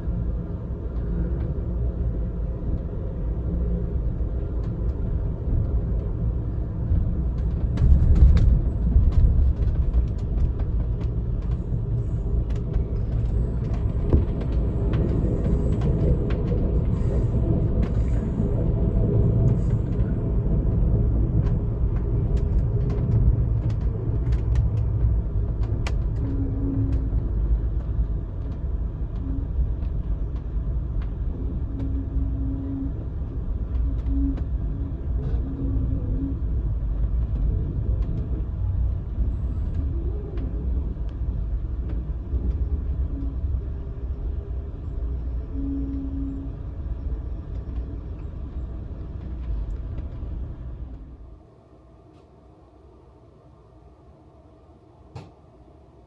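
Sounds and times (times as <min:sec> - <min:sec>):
train low rumble inside car: 0:00.0 - 0:56.0.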